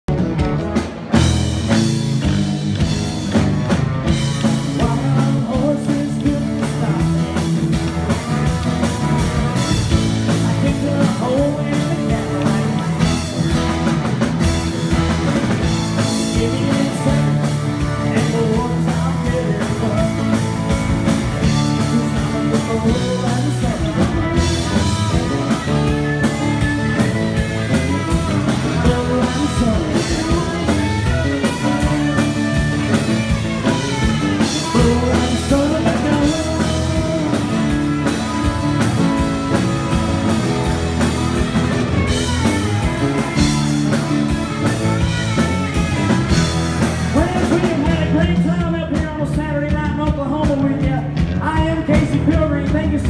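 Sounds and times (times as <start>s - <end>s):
drum kit steady beat: 0.0s - 53.0s.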